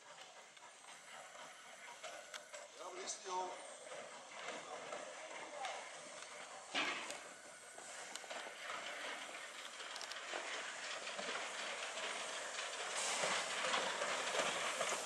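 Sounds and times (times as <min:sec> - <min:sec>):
steam hissing: 0:00.0 - 0:15.0
steam locomotive running: 0:00.0 - 0:15.0.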